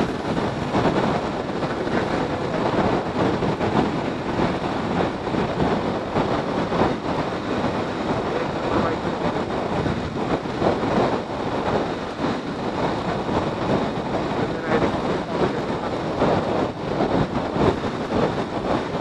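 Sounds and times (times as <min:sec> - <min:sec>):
road noise: 0:00.0 - 0:19.0
wind buffeting microphone: 0:00.0 - 0:19.0.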